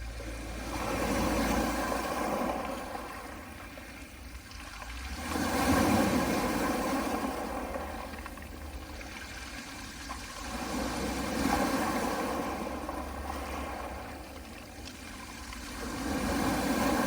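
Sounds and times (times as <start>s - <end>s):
waves washing onto pebbles: 0.0s - 17.0s.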